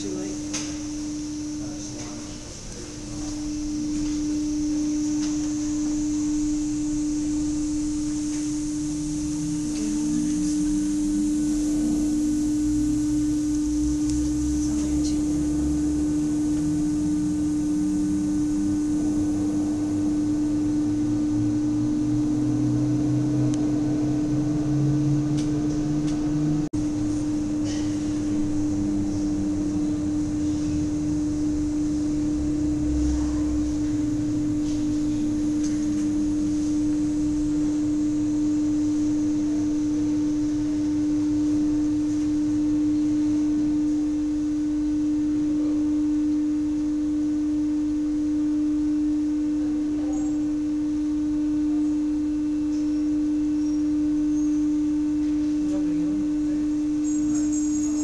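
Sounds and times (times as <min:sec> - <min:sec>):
cableway drive machinery hum: 0:00.0 - 0:58.0.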